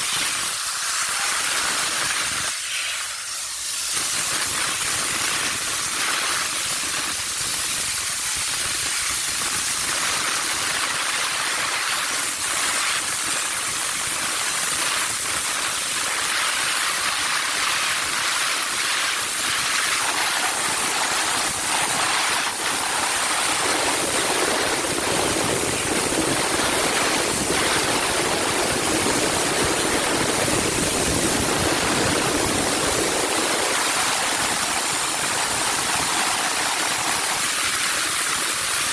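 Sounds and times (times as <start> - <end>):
steam gun hissing: 0.0 - 38.9.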